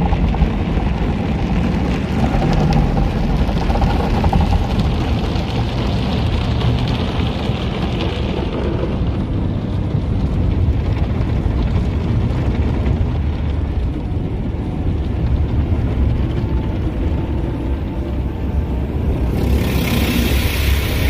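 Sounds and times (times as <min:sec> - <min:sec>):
car wash machinery: 0:00.0 - 0:21.0.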